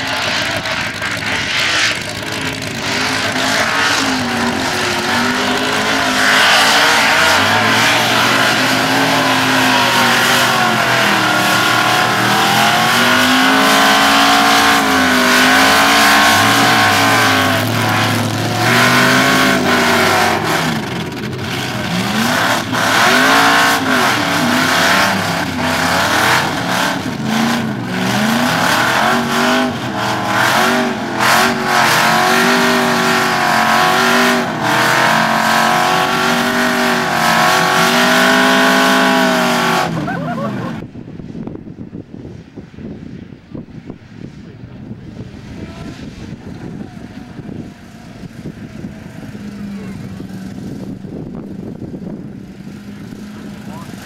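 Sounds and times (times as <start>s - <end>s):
truck engine revving: 0.0s - 41.0s, 44.8s - 54.0s.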